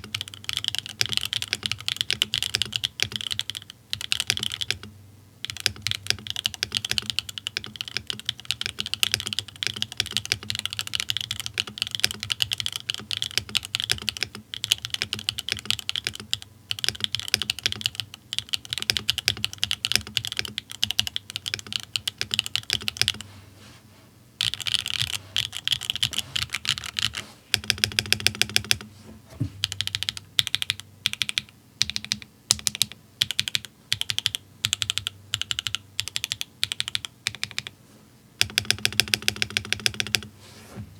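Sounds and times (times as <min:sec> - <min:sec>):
mechanical keyboard typing: 0:00.0 - 0:23.2, 0:24.4 - 0:28.9, 0:29.6 - 0:37.7, 0:38.4 - 0:40.3.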